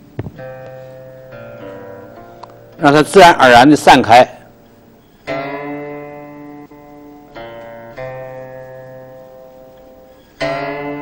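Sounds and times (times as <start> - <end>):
slow plucked string melody: 0.0 - 3.1, 4.4 - 11.0.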